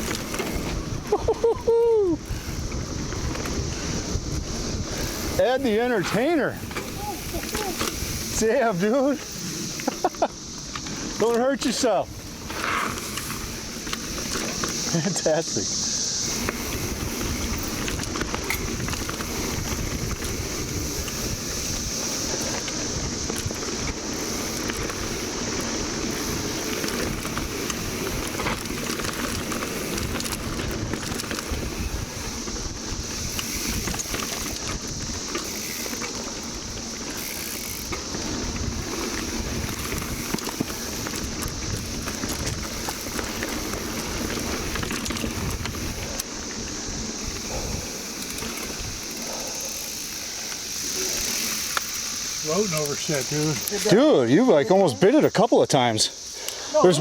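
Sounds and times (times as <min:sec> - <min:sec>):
bike clicks and knocks: 0:00.0 - 0:15.2, 0:16.2 - 0:54.0
bike tyres rumbling on dirt: 0:00.0 - 0:57.0
cicada chorus drone: 0:00.0 - 0:57.0.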